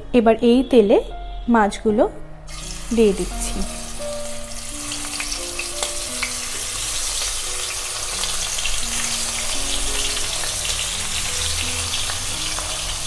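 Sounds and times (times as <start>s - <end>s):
fish sizzling in hot oil: 2.5s - 13.0s.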